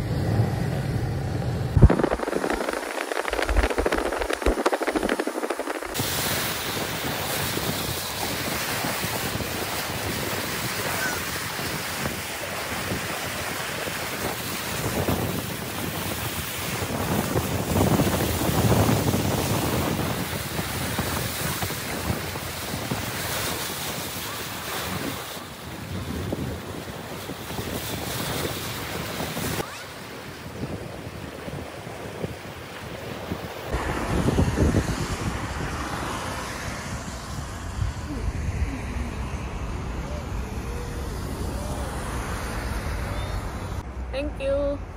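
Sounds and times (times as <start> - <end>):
water rushing and spraying: 0.0 - 43.8
wind buffeting microphone: 0.0 - 43.9
car driving through floodwater: 1.8 - 31.0, 33.0 - 44.1.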